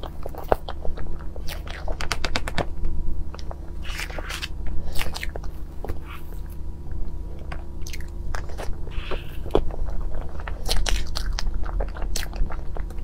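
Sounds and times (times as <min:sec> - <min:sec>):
soft chewing: 0:00.0 - 0:02.7, 0:03.3 - 0:13.0.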